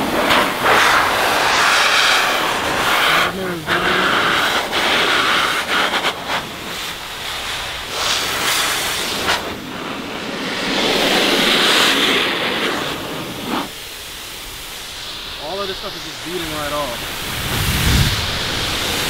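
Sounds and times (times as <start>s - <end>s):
car dryer blowing air: 0.0s - 19.0s.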